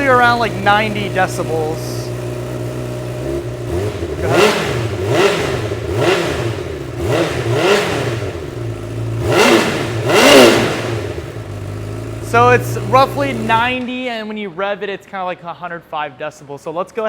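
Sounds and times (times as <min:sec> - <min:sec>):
motorcycle engine throttle blips: 0:00.0 - 0:14.6.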